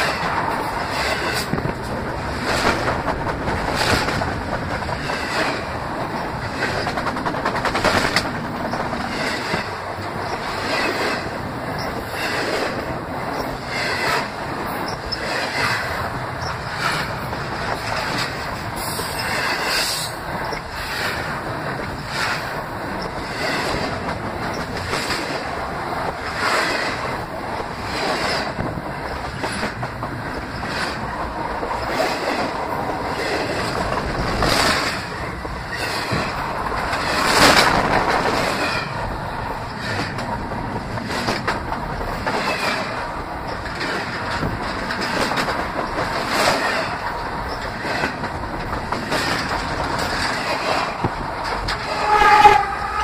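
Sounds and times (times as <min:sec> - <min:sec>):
train cars rumbling and rattling: 0:00.0 - 0:53.0
train wheels clacking: 0:00.0 - 0:53.0.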